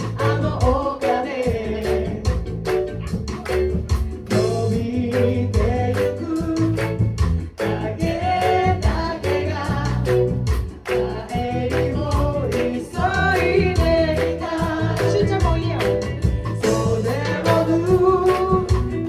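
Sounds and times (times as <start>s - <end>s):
group singing: 0.0s - 2.8s, 4.3s - 19.0s
bass: 0.0s - 19.0s
live band playing: 0.0s - 19.0s
steady beat: 0.0s - 19.0s
electric guitar: 1.6s - 19.0s.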